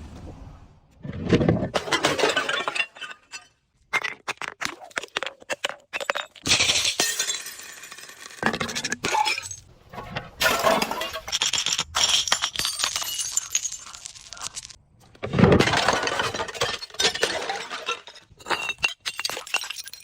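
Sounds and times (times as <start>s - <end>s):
glass bottle crushing: 1.5s - 9.6s, 10.4s - 20.0s.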